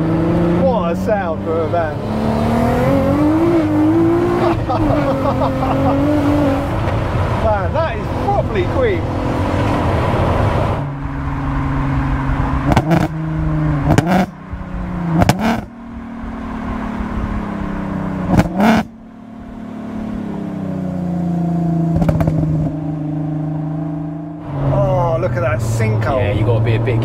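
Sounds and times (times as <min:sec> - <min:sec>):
van engine pulling hard: 0:00.0 - 0:27.0.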